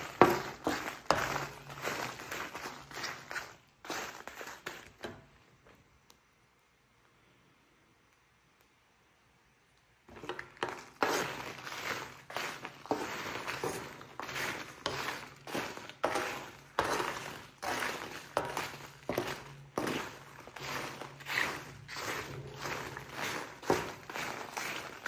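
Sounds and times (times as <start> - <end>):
dry chiles scraped with wooden spatula: 0.0 - 5.3, 10.1 - 25.0.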